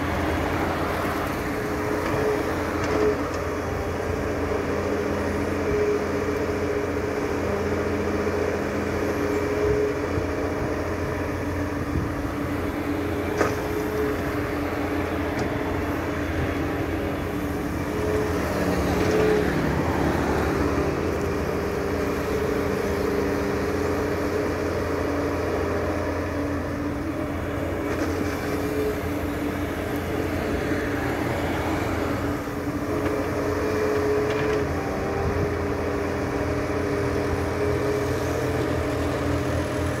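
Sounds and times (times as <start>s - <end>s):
excavator digging and loading soil: 0.0s - 40.0s
heavy diesel engines running: 0.0s - 40.0s.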